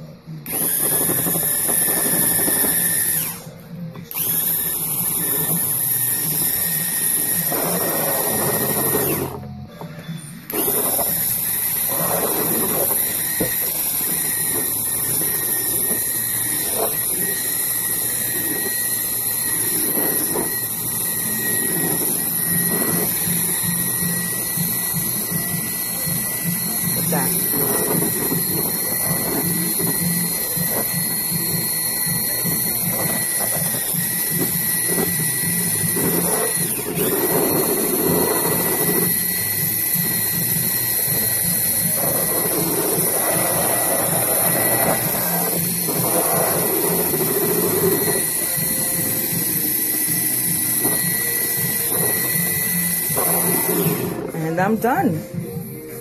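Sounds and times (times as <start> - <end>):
electric mixer motor whining: 0.0 - 56.0.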